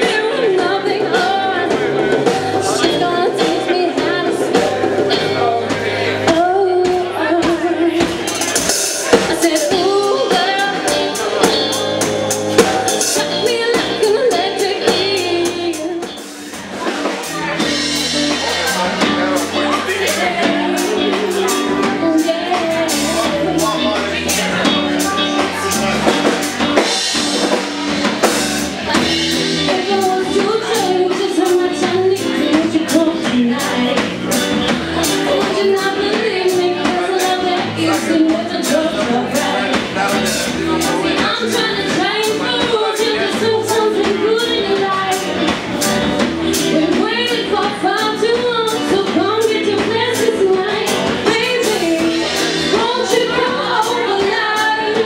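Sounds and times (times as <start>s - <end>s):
woman singing into a microphone: 0.0s - 17.9s, 19.0s - 27.6s, 28.9s - 40.0s, 40.7s - 55.0s
steady percussion beat: 0.0s - 47.8s
live band music: 0.0s - 55.0s.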